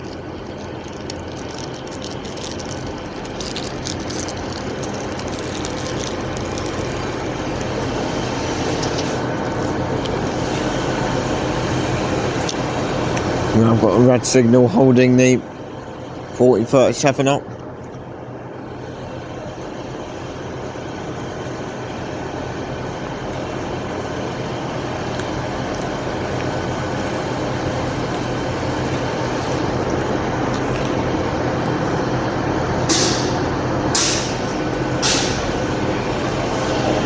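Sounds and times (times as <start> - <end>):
diesel train engine running: 0.0 - 37.0.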